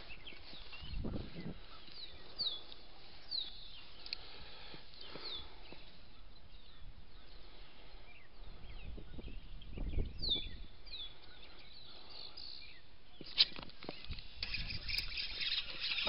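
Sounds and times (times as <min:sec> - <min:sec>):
birds whistling: 0:00.0 - 0:16.0
faint outdoor hiss: 0:00.0 - 0:16.0.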